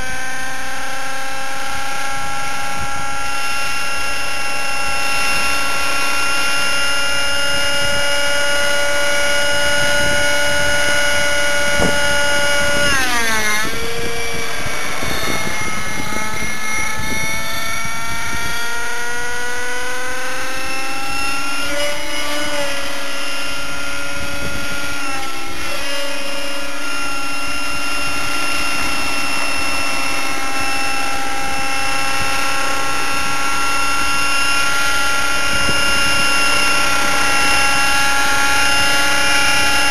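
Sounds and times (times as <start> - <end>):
model helicopter engine and rotor: 0.0 - 39.9.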